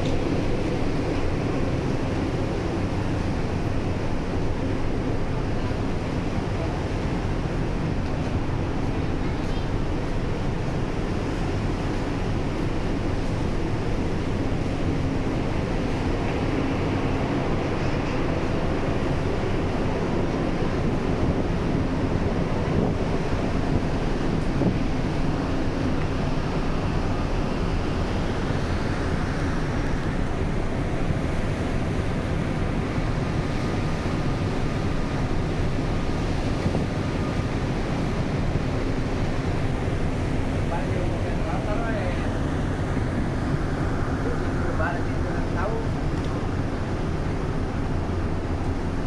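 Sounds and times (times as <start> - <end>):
faint engine hum: 0.0 - 49.0
sea water rushing: 0.0 - 49.0
ship low rumble: 0.0 - 49.0.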